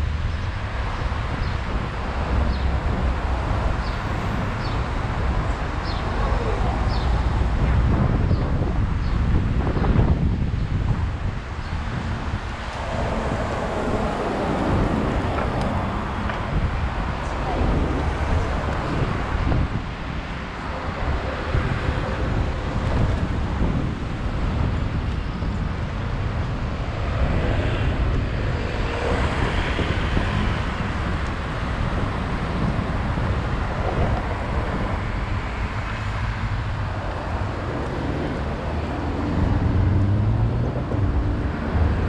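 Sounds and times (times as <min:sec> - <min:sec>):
road traffic passing: 0:00.0 - 0:42.0
wind rushing over microphone: 0:00.0 - 0:42.0.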